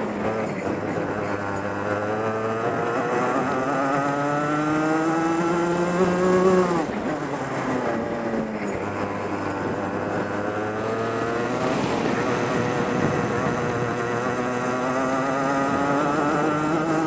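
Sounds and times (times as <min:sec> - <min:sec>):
kart engine accelerating: 0:00.0 - 0:17.0.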